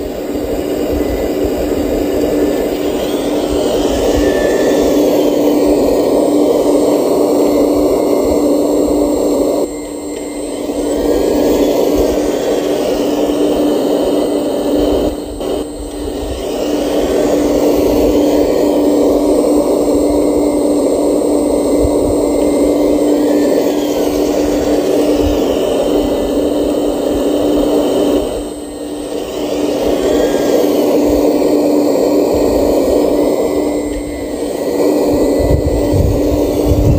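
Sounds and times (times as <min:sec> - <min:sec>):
model excavator electric whine: 0:00.0 - 0:36.9.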